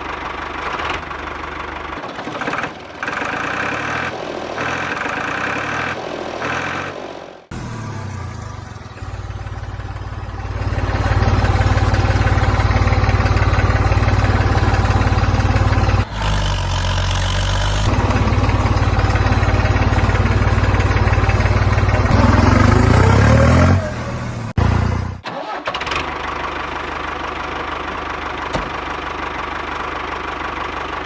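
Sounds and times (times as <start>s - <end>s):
heavy vehicle engine idling: 0.0s - 5.4s, 6.1s - 25.2s, 26.0s - 31.0s.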